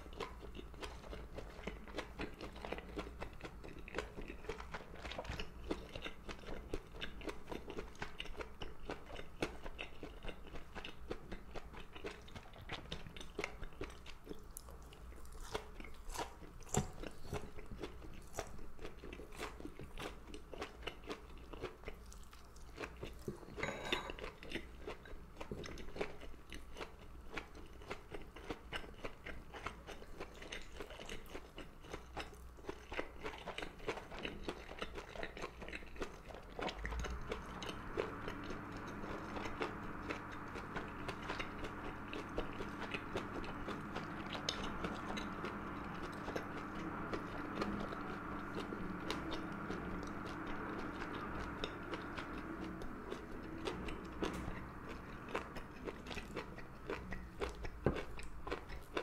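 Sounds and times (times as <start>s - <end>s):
close chewing and mouth sounds: 0.0s - 59.0s.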